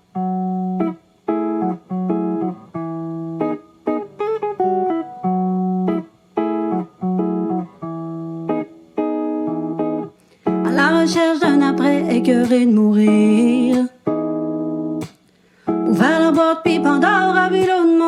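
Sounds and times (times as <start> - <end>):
bending guitar lead: 0.0 - 18.0
choppy guitar chords: 0.0 - 18.0.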